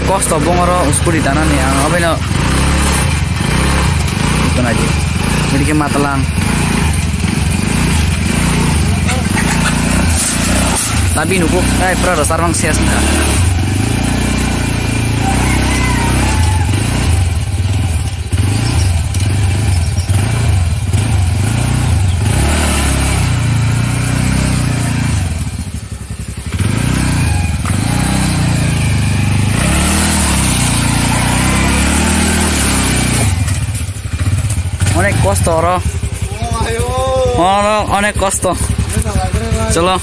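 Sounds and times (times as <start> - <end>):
scooter engine revving: 0.0 - 40.0.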